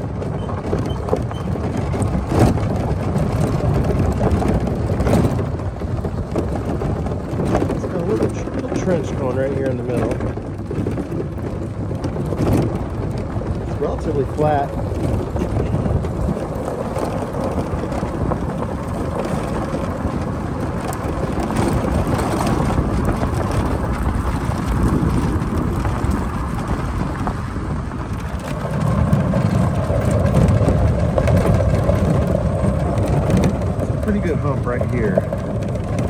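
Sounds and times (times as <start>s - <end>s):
tractor diesel engine running: 0.0s - 36.0s
tyres on gravel: 0.0s - 36.0s
wind buffeting microphone: 0.0s - 36.0s.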